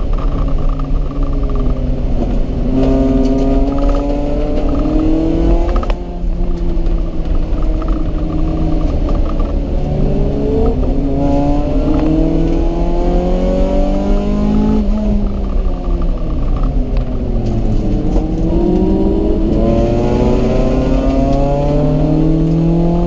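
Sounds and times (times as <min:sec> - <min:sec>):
car engine revving under load: 0:00.0 - 0:23.0
gear upshift: 0:00.0 - 0:23.0.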